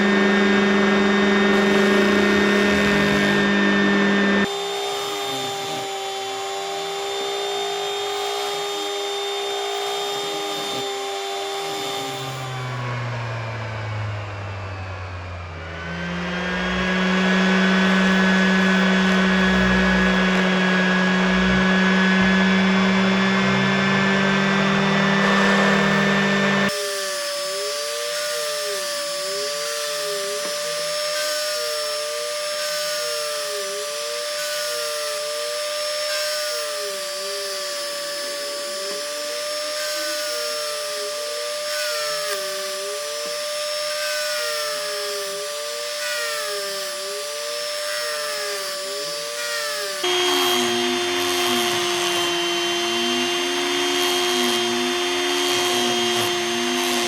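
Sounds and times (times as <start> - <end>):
electric power tool motor running: 0.0 - 57.0
high-pitched wavering motor: 0.0 - 57.0.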